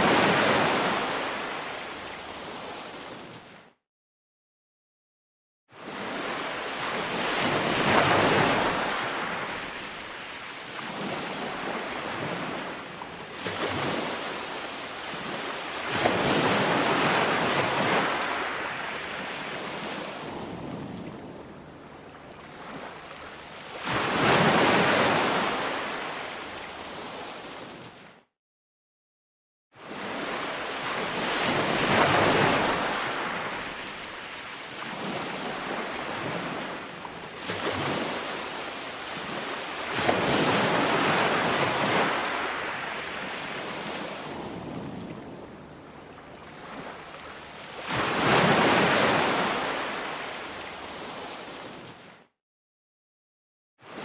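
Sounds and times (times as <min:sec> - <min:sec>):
ocean waves crashing: 0:00.0 - 0:03.0, 0:05.9 - 0:12.8, 0:13.5 - 0:27.7, 0:29.9 - 0:36.8, 0:37.4 - 0:45.7, 0:46.4 - 0:51.6.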